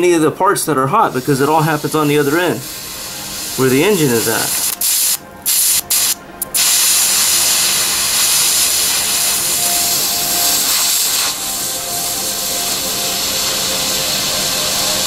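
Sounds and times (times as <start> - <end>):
gas hissing from nozzle: 1.2 - 15.0.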